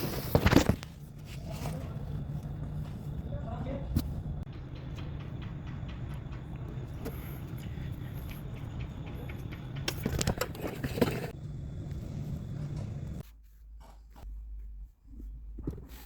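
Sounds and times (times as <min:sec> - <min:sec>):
car engine cranking: 0:00.0 - 0:13.2.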